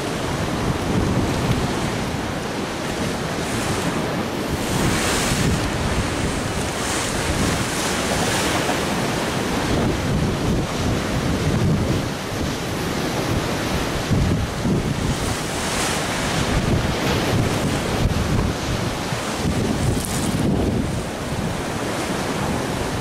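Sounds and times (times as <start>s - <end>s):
waves breaking: 0.0s - 23.0s
wind buffeting microphone: 0.0s - 23.0s.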